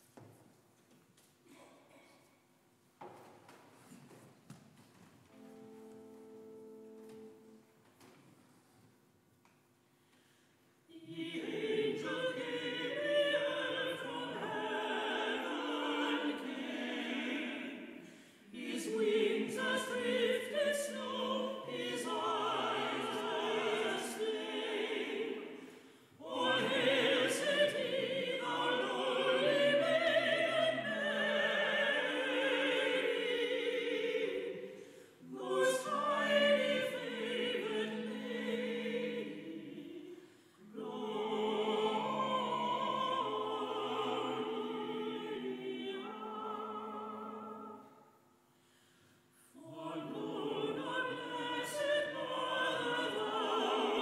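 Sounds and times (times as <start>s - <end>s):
church choir singing: 5.3s - 7.8s, 10.9s - 48.3s, 49.0s - 54.0s.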